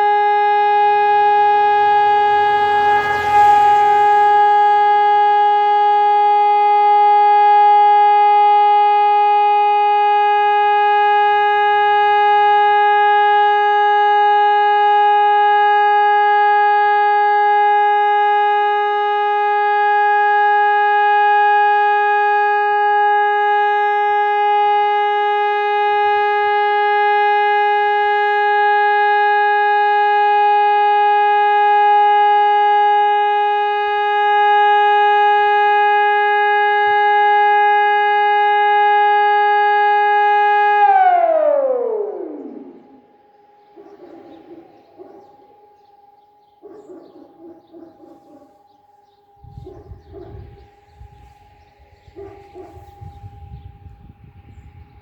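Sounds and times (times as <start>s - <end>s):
steady electronic siren tone: 0.0s - 55.0s.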